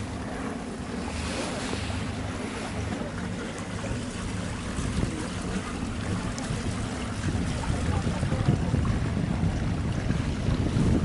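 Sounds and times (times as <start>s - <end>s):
water lapping: 0.0s - 11.0s
wind buffeting microphone: 0.0s - 11.0s.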